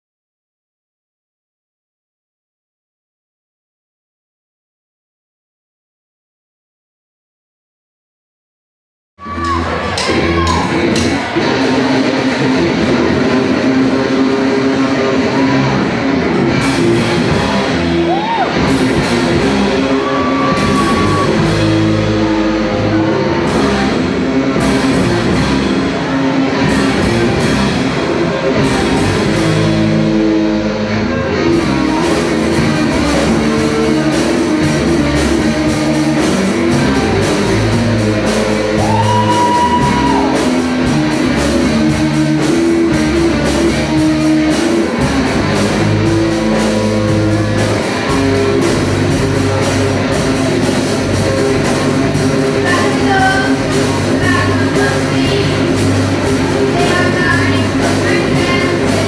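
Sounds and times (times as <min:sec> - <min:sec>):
drums: 0:09.2 - 0:59.0
electric bass: 0:09.2 - 0:59.0
electric guitars: 0:09.2 - 0:59.0.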